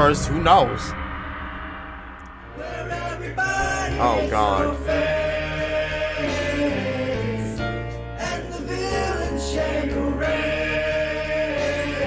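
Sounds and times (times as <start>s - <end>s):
soundtrack music with singing: 0.0s - 12.0s.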